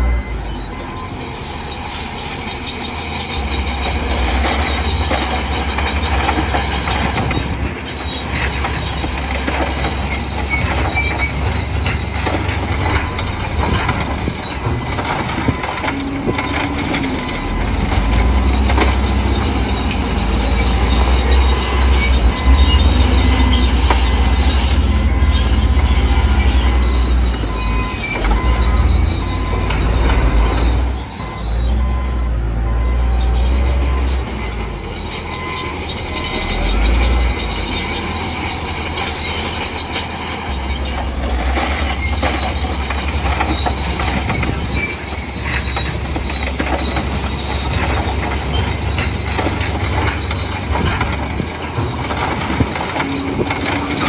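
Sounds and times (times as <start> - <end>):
diesel engine surging under load: 0.0 - 54.0
metallic squealing and clanking: 0.0 - 54.0.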